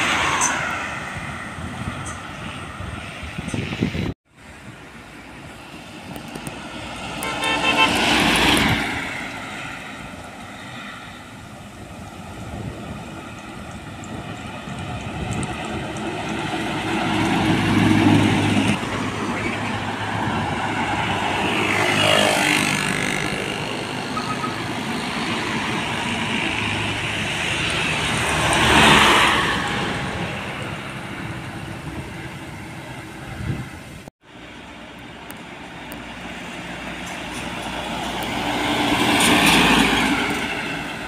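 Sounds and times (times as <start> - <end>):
heavy diesel trucks passing: 0.0 - 41.0.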